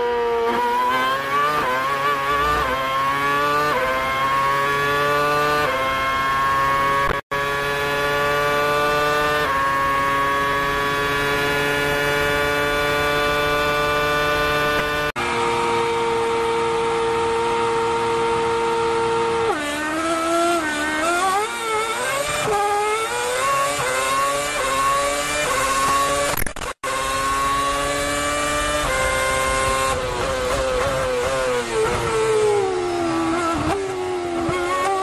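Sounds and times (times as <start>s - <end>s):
racing engine revving through gears: 0.0s - 35.0s.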